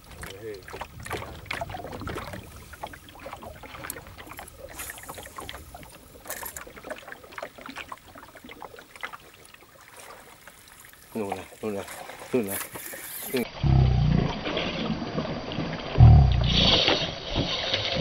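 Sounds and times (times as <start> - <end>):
water lapping against boat hull: 0.0 - 18.0.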